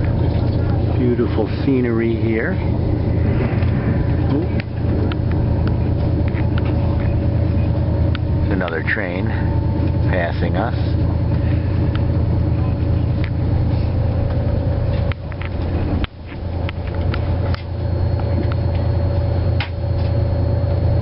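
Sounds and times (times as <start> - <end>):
faint steady whine: 0.0 - 21.0
train low rumble: 0.0 - 21.0.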